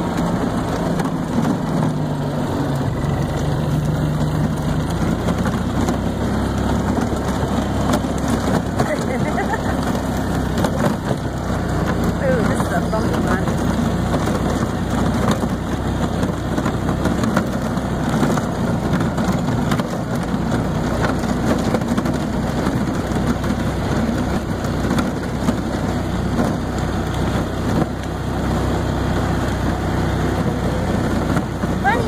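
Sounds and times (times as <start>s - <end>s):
golf cart running: 0.0s - 32.0s.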